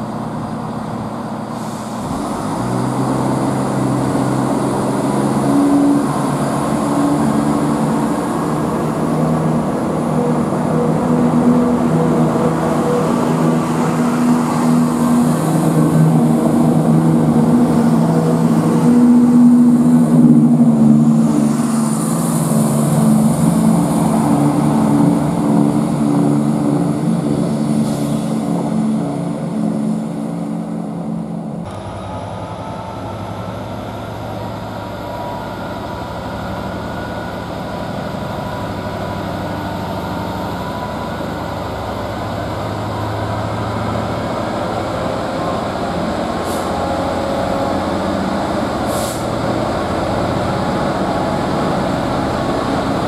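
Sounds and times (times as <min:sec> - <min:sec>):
diesel locomotive humming: 0:00.0 - 0:53.0
train diesel engines running: 0:00.0 - 0:53.0.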